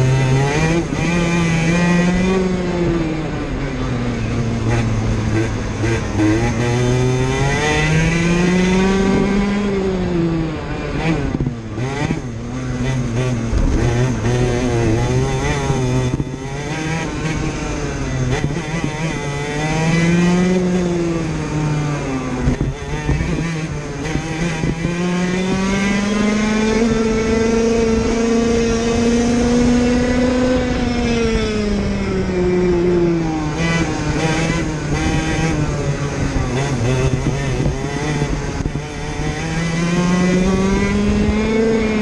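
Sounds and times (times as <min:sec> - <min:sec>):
two-stroke kart engine racing: 0:00.0 - 0:42.0.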